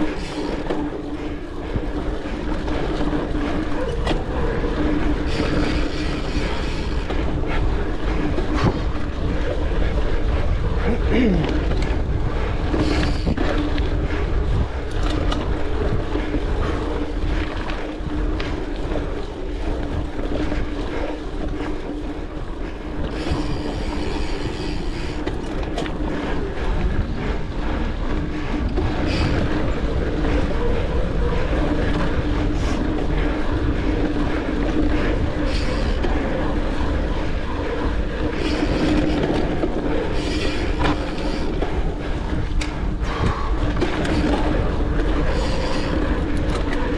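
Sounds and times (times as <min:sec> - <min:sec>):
mountain bike rumbling and rattling: 0:00.0 - 0:46.9.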